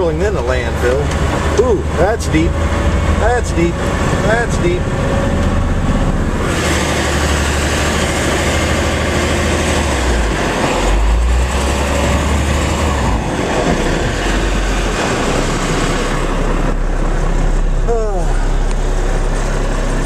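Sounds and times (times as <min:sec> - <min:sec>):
truck diesel engine under load: 0:00.0 - 0:20.0
loud rushing noise: 0:02.6 - 0:20.0.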